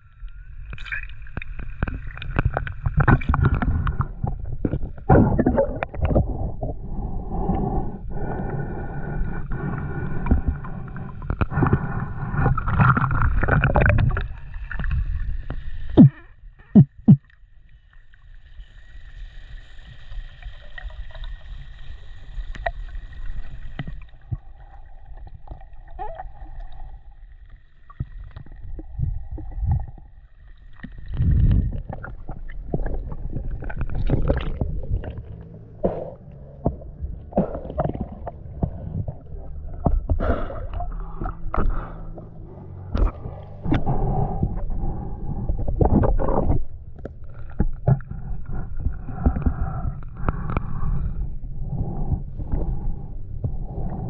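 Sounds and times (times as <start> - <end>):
water splashing and sloshing: 0.0 - 6.8, 9.5 - 51.2
water rushing and bubbling: 0.0 - 17.3, 18.0 - 54.0.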